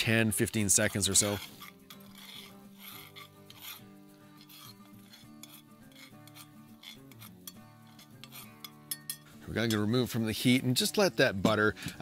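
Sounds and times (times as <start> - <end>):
metal spoon scraping skillet: 0.0 - 11.1
background music: 0.0 - 12.0.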